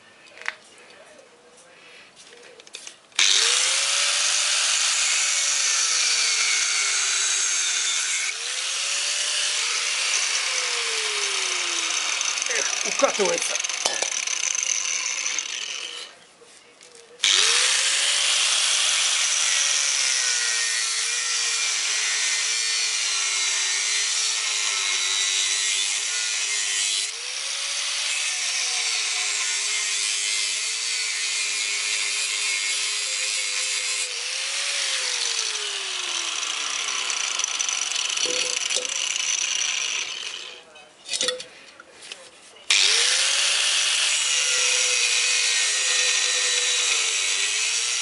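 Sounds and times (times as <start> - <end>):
angle grinder cutting steel: 3.2 - 16.2, 17.2 - 40.6, 42.7 - 48.0.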